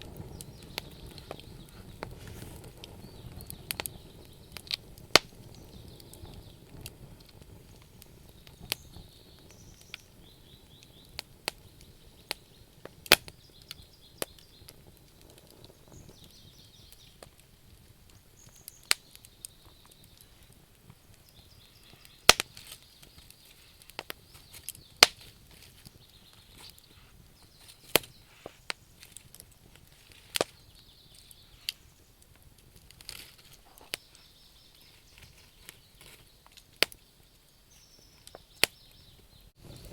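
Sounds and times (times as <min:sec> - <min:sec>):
campfire crackling: 0:00.0 - 0:39.9
soft steady hiss: 0:00.0 - 0:39.9.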